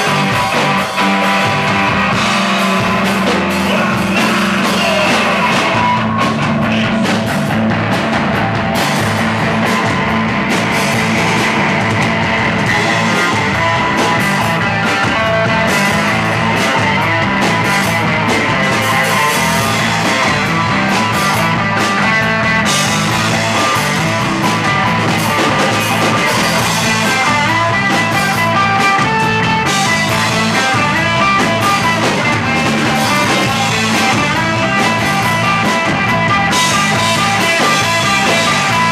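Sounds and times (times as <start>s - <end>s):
drum kit: 0.0s - 38.9s
electric bass guitar: 0.0s - 38.9s
electric guitar: 0.0s - 38.9s.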